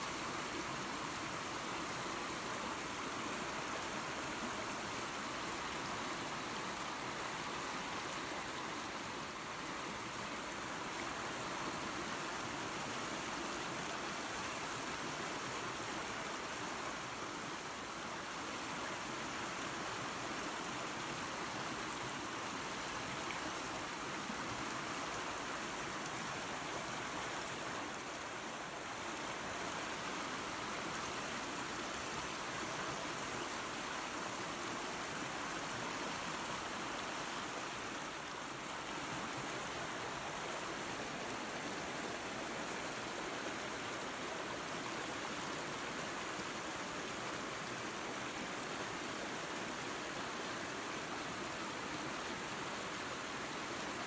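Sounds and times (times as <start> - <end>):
waterfall and creek running water: 0.0 - 54.0.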